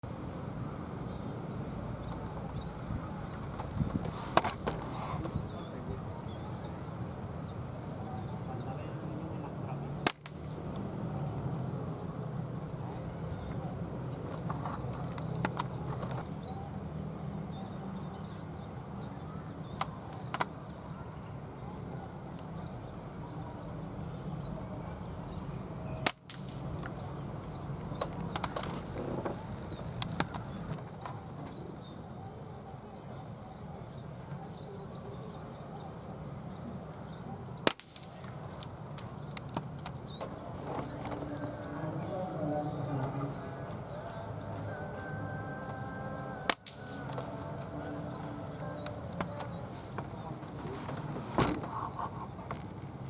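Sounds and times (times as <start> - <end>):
low background noise: 0.0 - 53.0.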